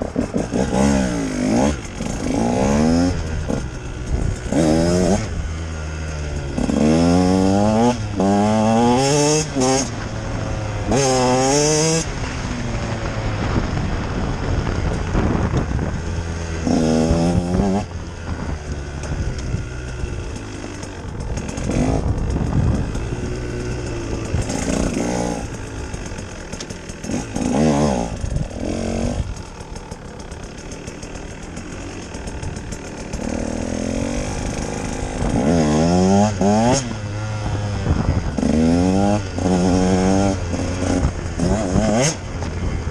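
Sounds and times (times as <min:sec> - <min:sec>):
two-stroke motorcycle engine revving: 0:00.0 - 0:42.9.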